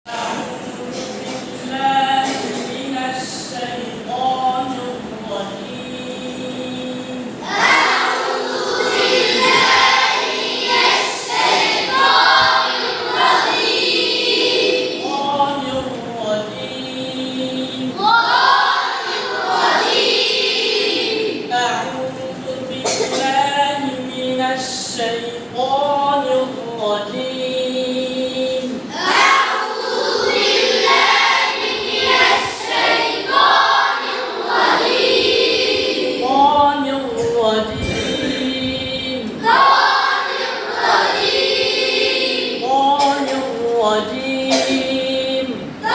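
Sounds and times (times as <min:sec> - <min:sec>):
group chanting in unison: 0:00.1 - 0:03.1, 0:05.3 - 0:23.2, 0:26.2 - 0:36.6, 0:37.9 - 0:45.9.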